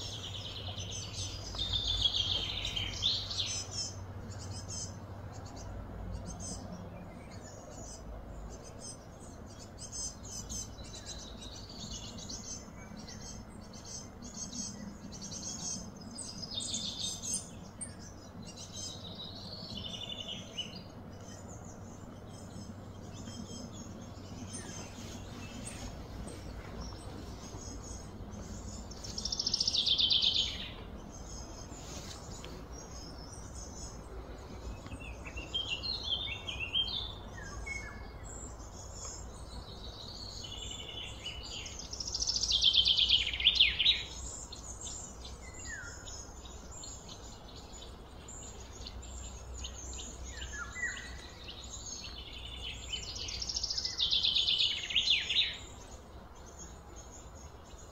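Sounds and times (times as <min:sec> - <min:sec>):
low background rumble: 0:00.0 - 0:54.7
songbirds singing: 0:00.0 - 0:57.9.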